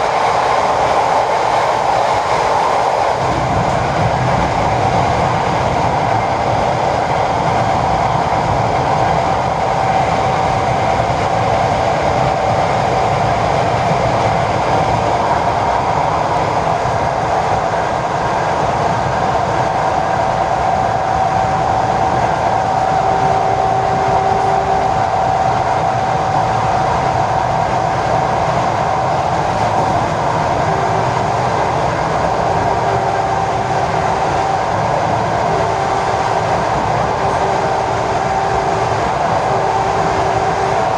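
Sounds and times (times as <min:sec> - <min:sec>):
steady train whine: 0:00.0 - 0:40.9
train wheels rumbling on rail: 0:00.0 - 0:40.9.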